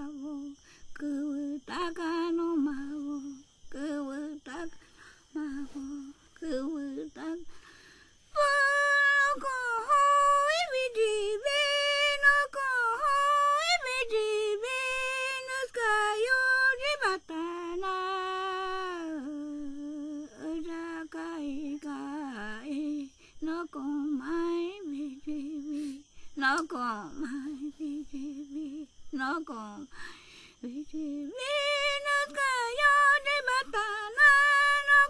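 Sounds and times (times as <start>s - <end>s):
faint steady high tone: 0.0s - 35.0s
woman singing unaccompanied: 0.0s - 35.0s.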